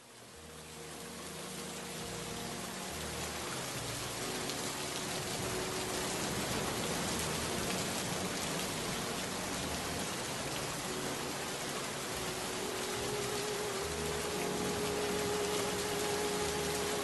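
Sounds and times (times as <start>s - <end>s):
faint music: 0.0s - 17.0s
steady rain falling: 0.0s - 17.0s.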